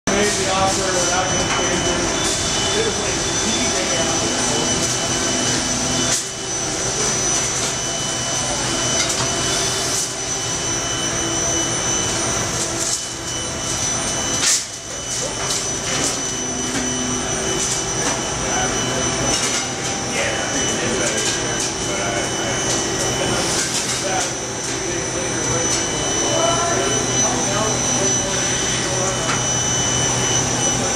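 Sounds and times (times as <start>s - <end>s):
machine hum with high whine: 0.1s - 30.9s.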